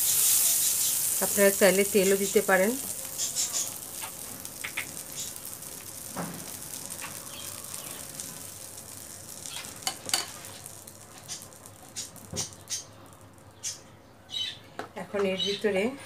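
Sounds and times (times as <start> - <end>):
butter sizzling in a pan: 0.0 - 13.8.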